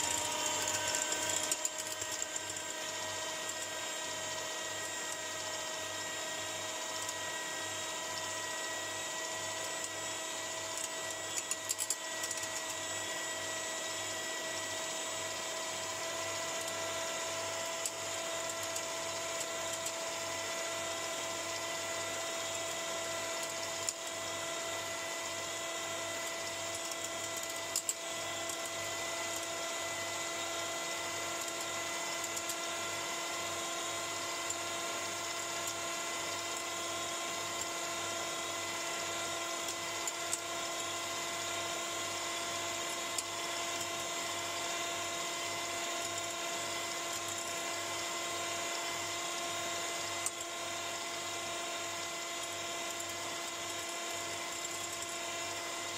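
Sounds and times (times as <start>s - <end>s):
electric hand mixer whine: 0.0s - 55.9s.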